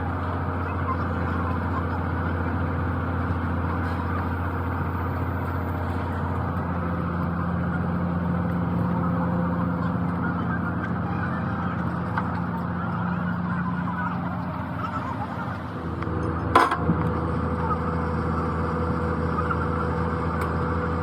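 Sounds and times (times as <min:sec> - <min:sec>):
engine running with low hum: 0:00.0 - 0:21.0
higher engine tone: 0:00.0 - 0:21.0.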